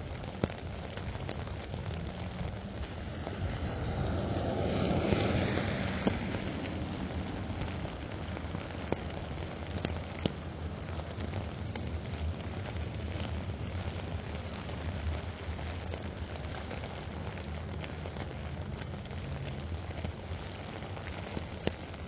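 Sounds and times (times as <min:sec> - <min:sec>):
car tyres hissing on wet road: 0:00.0 - 0:22.0
rain pattering on an umbrella: 0:00.0 - 0:22.0.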